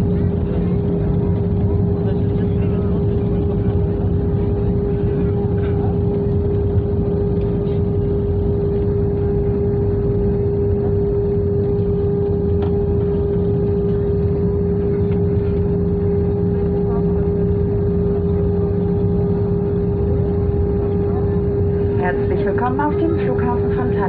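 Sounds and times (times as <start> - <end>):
aircraft engines rumbling: 0.0 - 24.0
mid-pitched cabin hum: 0.0 - 24.0.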